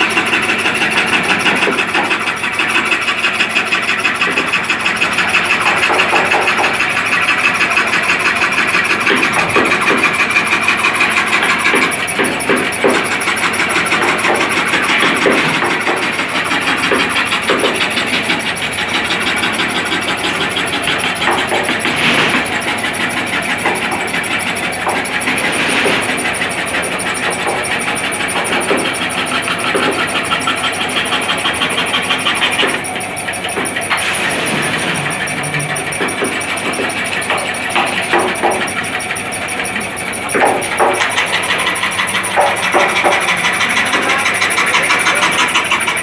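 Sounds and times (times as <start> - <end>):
scroll saw cutting wood: 0.0 - 46.0.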